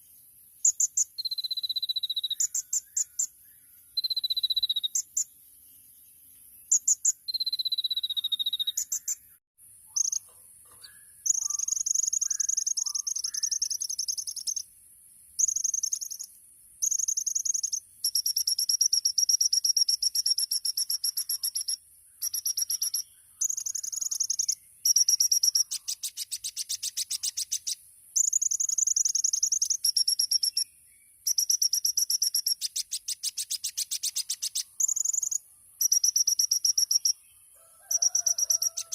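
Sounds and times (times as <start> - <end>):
bird singing high buzzing trills: 0.0 - 14.8, 15.4 - 38.9.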